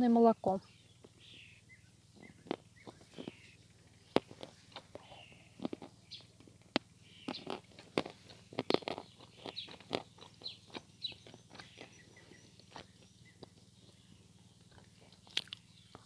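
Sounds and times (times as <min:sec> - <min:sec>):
birds chirping: 0:00.0 - 0:16.0
chalk crunching while chewed: 0:02.2 - 0:14.0, 0:14.6 - 0:16.0.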